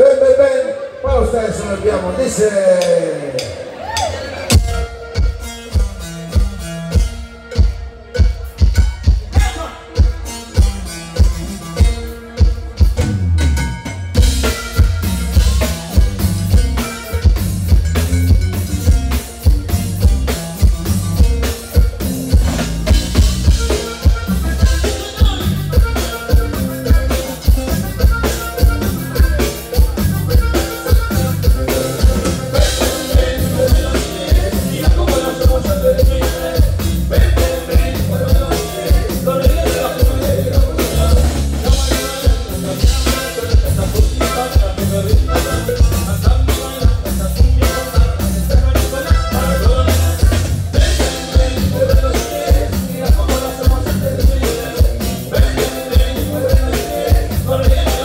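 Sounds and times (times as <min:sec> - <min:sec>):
live band playing dance music: 0:00.0 - 0:58.0.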